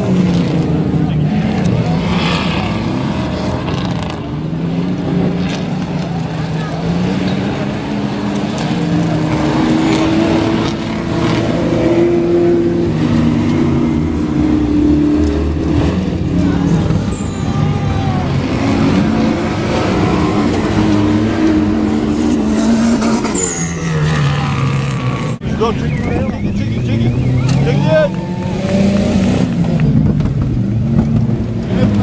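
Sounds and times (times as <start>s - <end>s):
engines revving hard: 0.0s - 32.0s.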